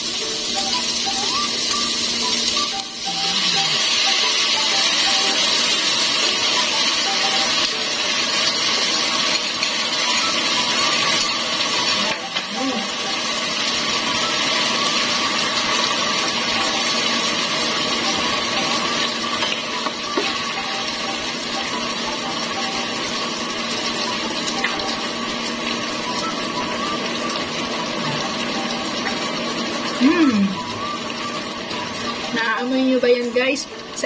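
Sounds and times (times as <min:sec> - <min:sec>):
sauce sizzling in a frying pan: 0:00.0 - 0:34.0.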